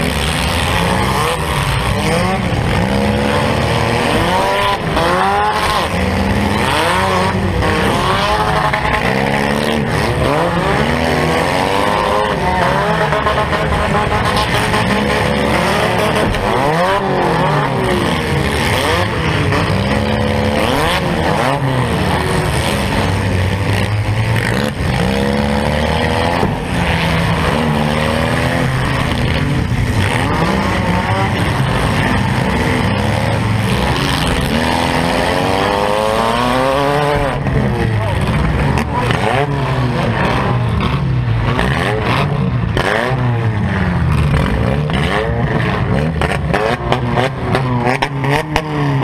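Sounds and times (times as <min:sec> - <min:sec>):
car engine revving hard: 0:00.0 - 0:49.0
other car engines: 0:00.0 - 0:49.0.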